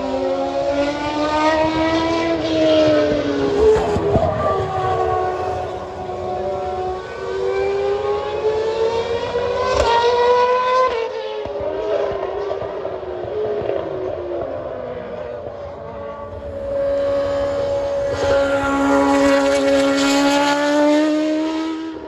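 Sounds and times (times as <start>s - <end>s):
car engines running at speed: 0.0s - 22.0s.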